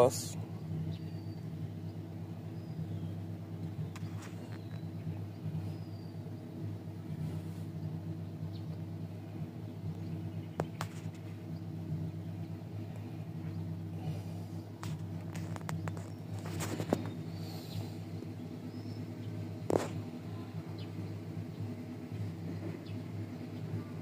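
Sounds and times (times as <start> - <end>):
engine idling hum: 0.0 - 24.0.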